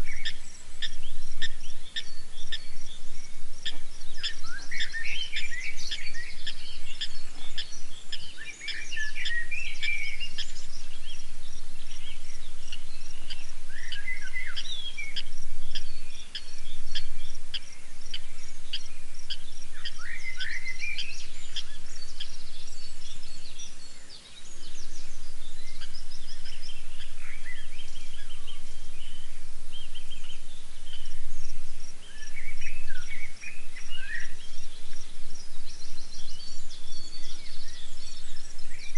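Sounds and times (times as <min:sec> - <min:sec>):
birds chirping: 0:00.0 - 0:38.9
whistled bird calls: 0:00.0 - 0:38.9.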